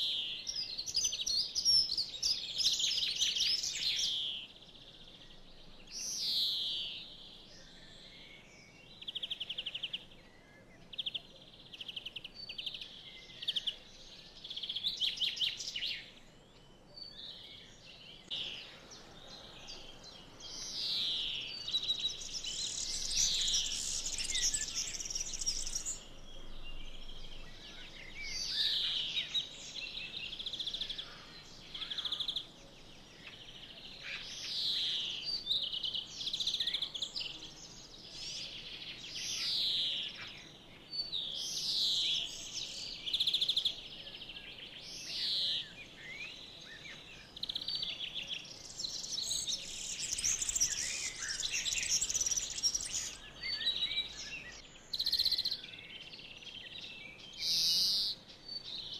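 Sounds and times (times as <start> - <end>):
faint background hiss: 0.0 - 58.9.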